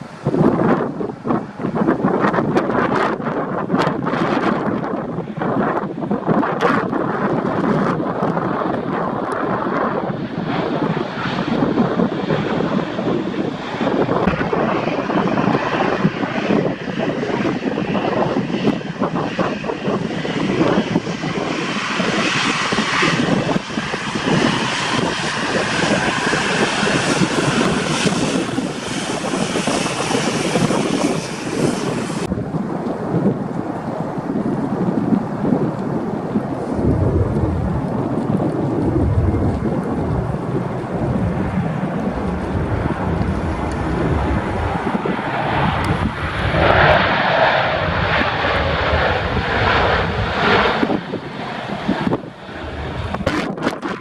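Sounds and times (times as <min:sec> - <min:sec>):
jet airliner passing overhead: 0:00.0 - 0:54.0
wind on microphone: 0:00.0 - 0:54.0.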